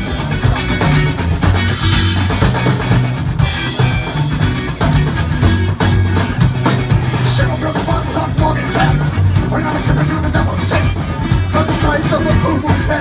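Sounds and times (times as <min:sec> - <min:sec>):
bass drum and snare beat: 0:00.0 - 0:13.0
live rock band playing: 0:00.0 - 0:13.0.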